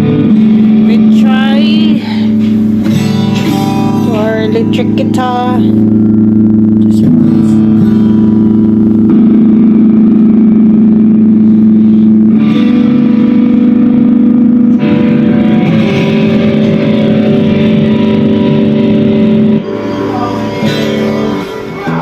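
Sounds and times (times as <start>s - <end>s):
guitar chords: 0.0s - 22.0s.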